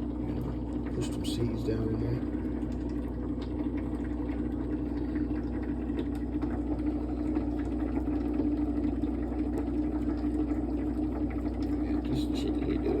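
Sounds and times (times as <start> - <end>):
steady mechanical motor hum: 0.0 - 13.0.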